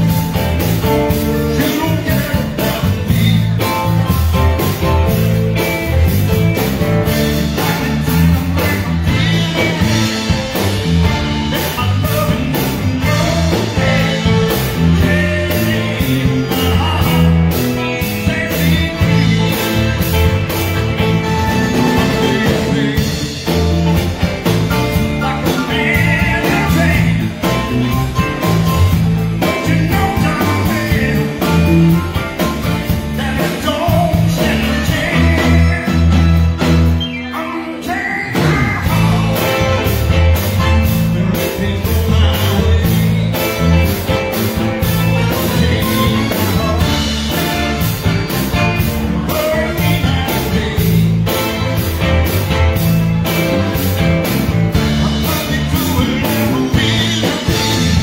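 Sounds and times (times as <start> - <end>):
drums: 0.0 - 58.0
electric guitars: 0.0 - 58.0
man singing: 0.0 - 58.0.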